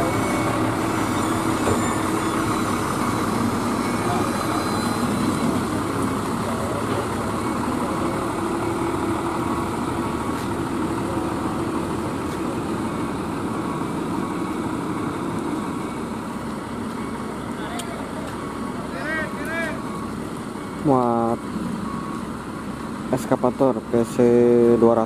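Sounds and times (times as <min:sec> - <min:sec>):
vehicle engine running: 0:00.0 - 0:24.8
road noise: 0:00.0 - 0:25.0.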